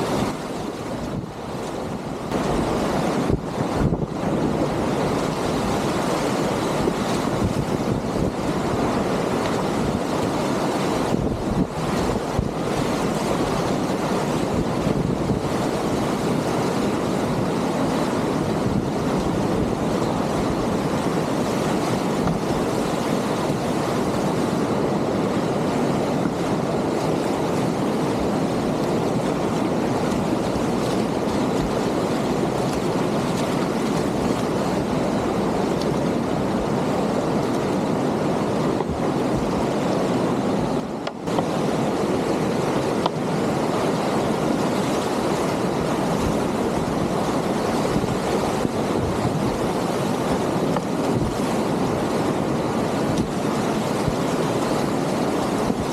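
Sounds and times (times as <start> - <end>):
river rapids rushing: 0.0 - 55.9.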